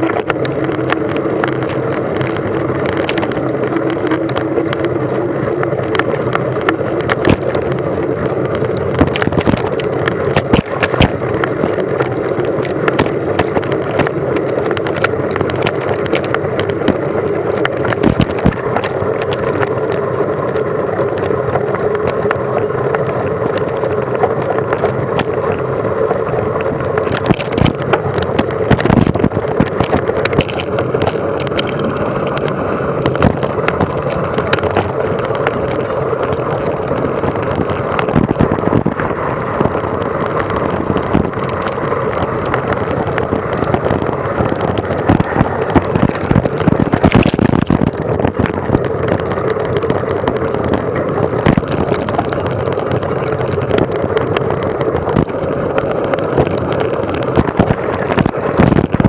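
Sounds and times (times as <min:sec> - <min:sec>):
camera knocking and rattling: 0:00.0 - 0:59.0
wind on microphone: 0:00.0 - 0:59.0.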